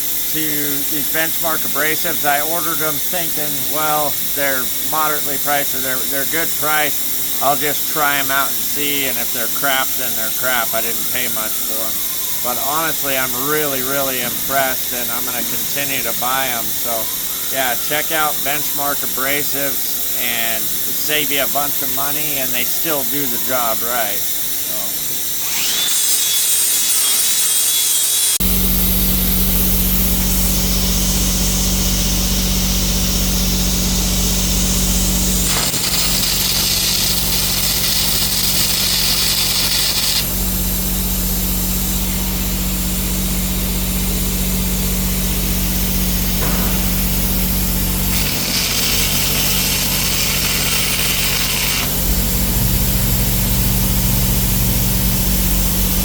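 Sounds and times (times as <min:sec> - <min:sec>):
angle grinder grinding steel: 0:00.0 - 0:56.0.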